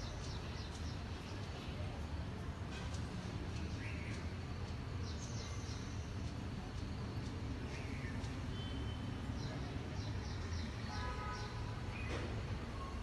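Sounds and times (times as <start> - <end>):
small birds chirping: 0.0 - 2.1, 2.9 - 13.0.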